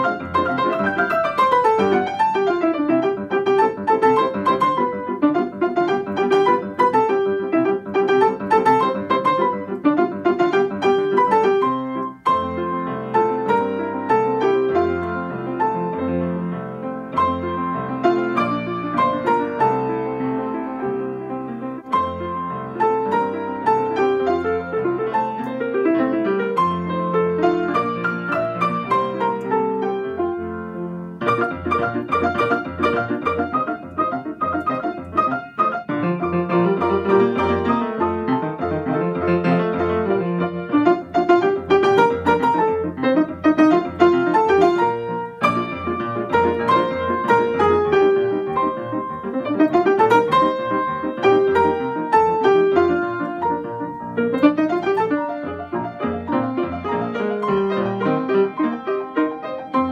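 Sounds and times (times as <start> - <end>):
grand piano duet piece: 0.0 - 59.9.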